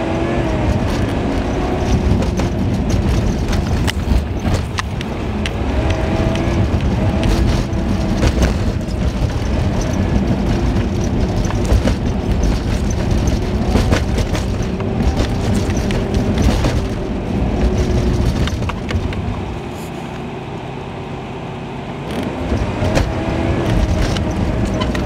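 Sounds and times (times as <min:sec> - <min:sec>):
engine and road noise: 0:00.0 - 0:25.0
sharp clicks and knocks: 0:00.4 - 0:20.3, 0:22.0 - 0:25.0.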